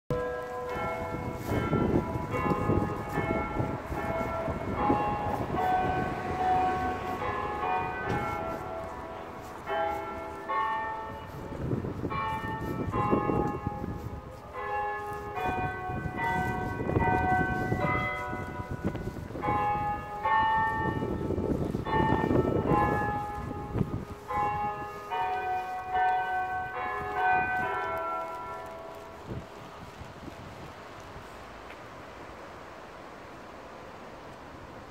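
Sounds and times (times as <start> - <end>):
church bells change ringing: 0.1 - 30.0.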